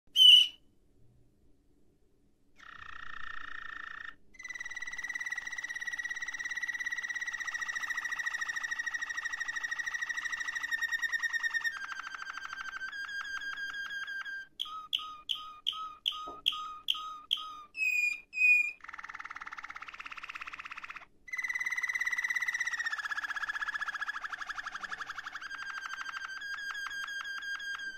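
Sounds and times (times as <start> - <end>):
canary singing trills: 0.1 - 0.6, 2.6 - 27.9.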